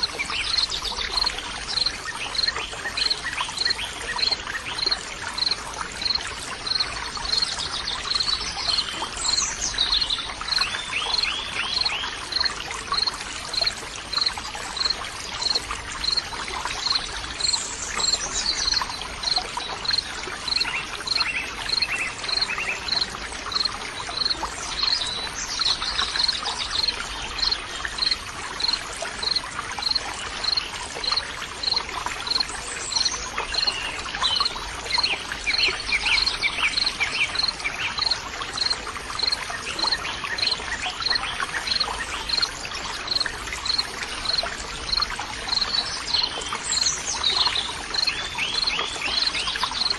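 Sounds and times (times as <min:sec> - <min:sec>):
insect chirping: 0:00.0 - 0:32.4, 0:36.2 - 0:42.5, 0:43.1 - 0:46.2
running water trickling: 0:00.0 - 0:49.9.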